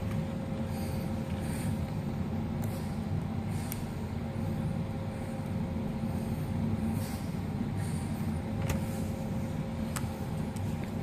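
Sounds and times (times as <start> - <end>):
low rumbling hum: 0.0 - 11.0.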